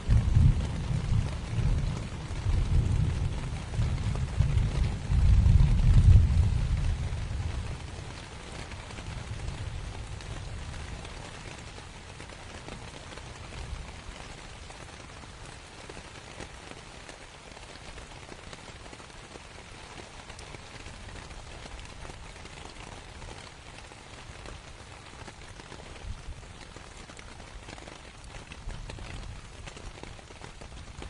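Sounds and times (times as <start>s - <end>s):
rain pattering on a tent: 0.0s - 31.0s.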